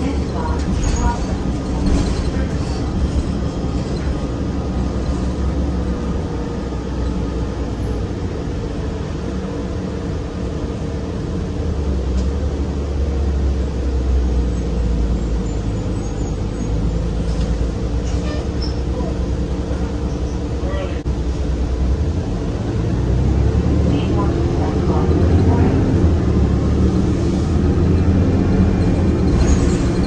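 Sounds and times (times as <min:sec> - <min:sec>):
bus engine rumbling: 0:00.0 - 0:30.0.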